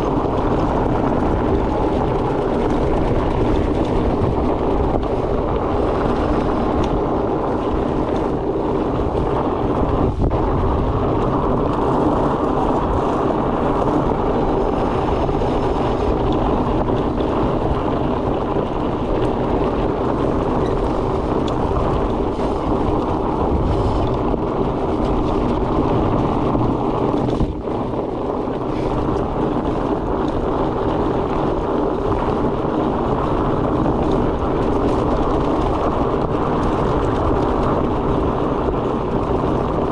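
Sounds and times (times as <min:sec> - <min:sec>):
bike tyres rolling on trail: 0:00.0 - 0:39.9
faint tyre hum: 0:00.0 - 0:39.9
wind on microphone: 0:00.0 - 0:39.9.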